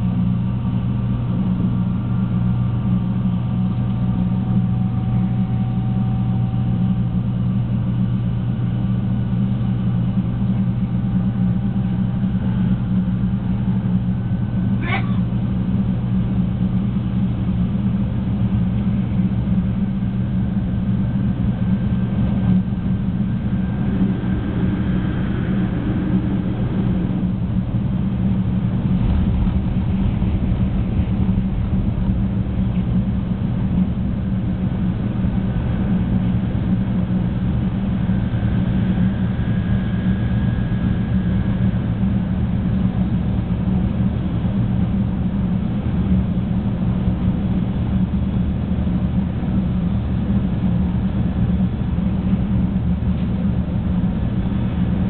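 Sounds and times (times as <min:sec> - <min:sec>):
faint high whine: 0:00.0 - 0:55.0
train running gear rumble and hum: 0:00.0 - 0:55.0.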